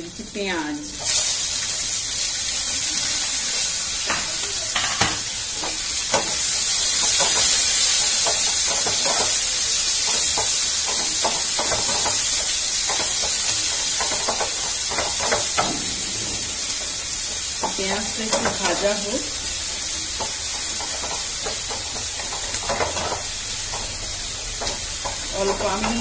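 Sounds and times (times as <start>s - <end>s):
onion sizzling in hot oil: 0.0s - 26.0s.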